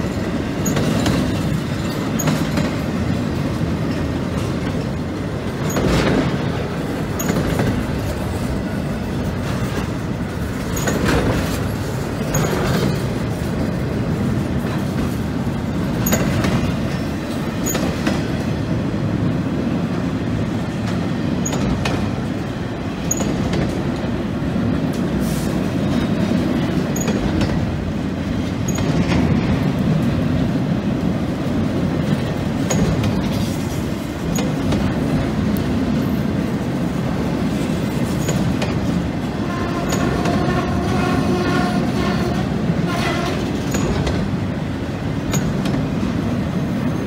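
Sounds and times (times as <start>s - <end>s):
wheels clicking over rail joints: 0.0s - 18.8s, 20.6s - 24.2s, 25.8s - 47.0s
train wheels rumbling on rails: 0.0s - 47.0s.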